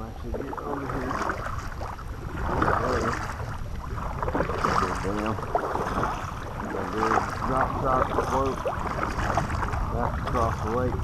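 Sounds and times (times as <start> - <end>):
paddle strokes splashing water: 0.0 - 11.0
wind rumble on microphone: 0.0 - 11.0.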